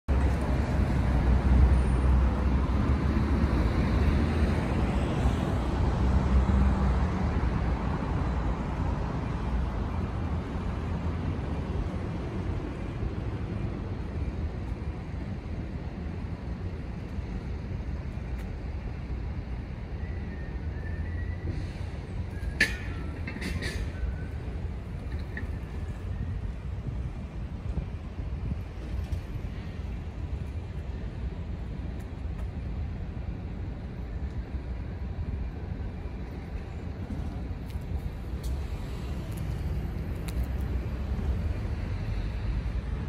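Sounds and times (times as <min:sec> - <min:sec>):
traffic noise: 0:00.0 - 0:43.0
vehicle rumble: 0:00.1 - 0:43.0.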